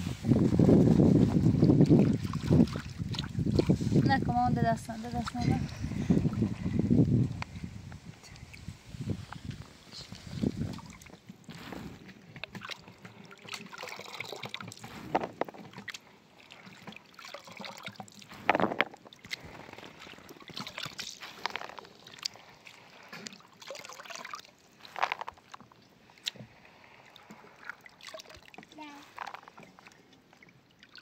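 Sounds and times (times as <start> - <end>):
hands sloshing in water: 0.0 - 4.2, 8.2 - 31.0.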